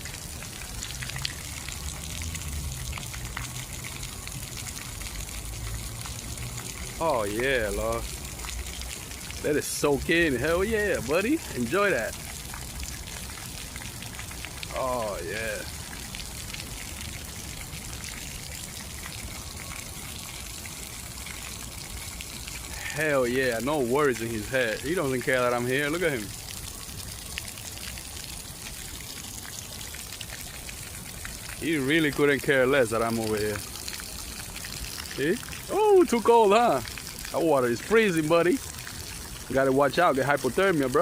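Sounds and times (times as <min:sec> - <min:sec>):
water drips and splashes: 0:00.0 - 0:41.0
water running and gushing: 0:00.0 - 0:41.0.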